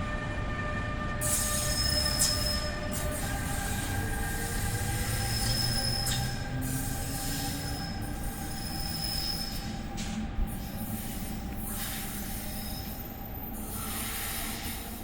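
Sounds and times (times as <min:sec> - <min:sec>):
wheels rumbling on rail: 0:00.0 - 0:15.0
train wheel squeal: 0:00.8 - 0:15.0.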